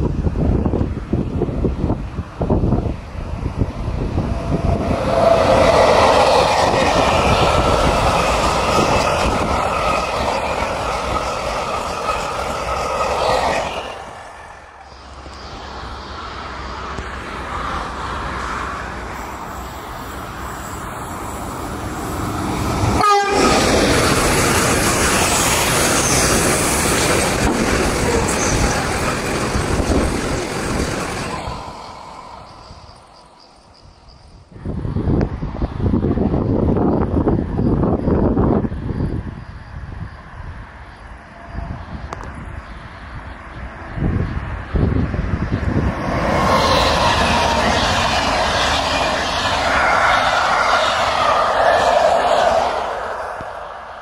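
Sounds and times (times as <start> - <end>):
wheel-on-rail noise: 0.0 - 39.2, 40.2 - 54.0
freight train rumbling by: 0.0 - 54.0.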